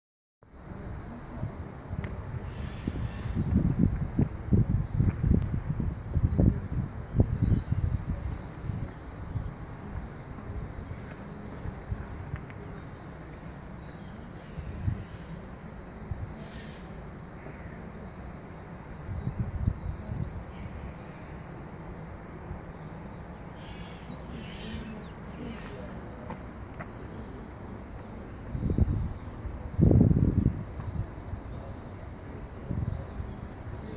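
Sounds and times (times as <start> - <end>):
wind rumble on microphone: 0.5 - 12.9, 13.7 - 17.7, 18.8 - 22.8, 26.5 - 33.9
small birds chirping: 1.1 - 33.9.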